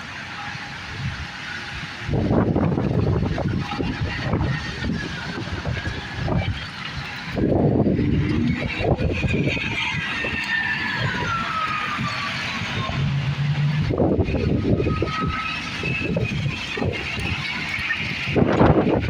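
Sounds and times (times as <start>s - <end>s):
wind gusts on microphone: 0.8s - 19.0s
vehicle passing: 2.3s - 19.0s.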